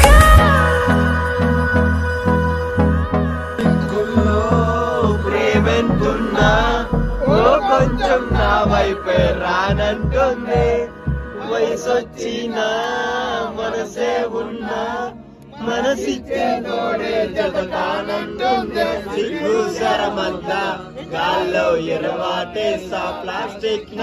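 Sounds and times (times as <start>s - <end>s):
men singing in chorus: 3.6s - 24.0s.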